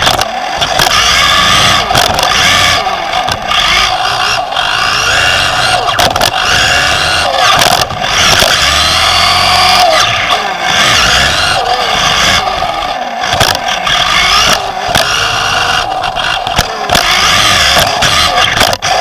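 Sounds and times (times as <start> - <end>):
electric motor and gears whining: 0.0 - 19.0
tyre and drivetrain noise: 0.0 - 19.0.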